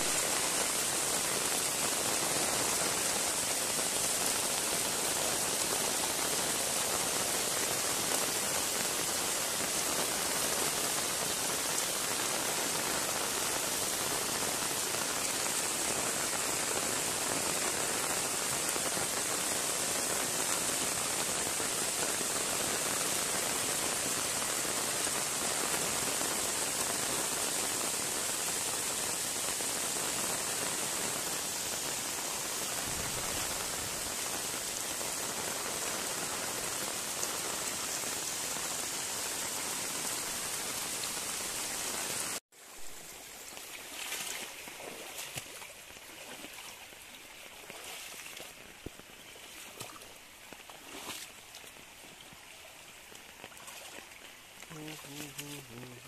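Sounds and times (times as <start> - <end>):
heavy rain on river: 0.0 - 56.0.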